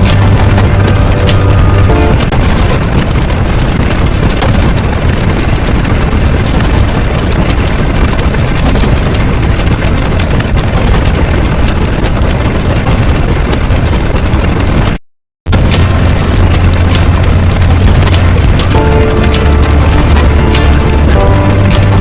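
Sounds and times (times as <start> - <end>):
loud noise with low rumble: 0.0 - 22.0.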